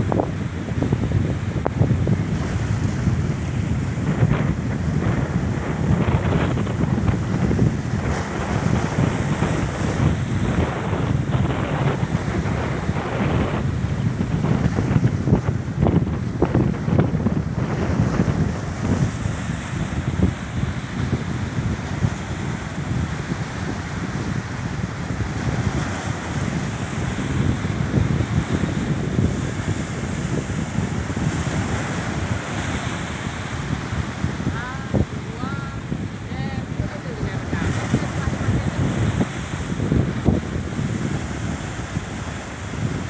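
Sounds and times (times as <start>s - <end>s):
sea waves against rocks: 0.0s - 43.0s
wind buffeting microphone: 0.0s - 43.0s.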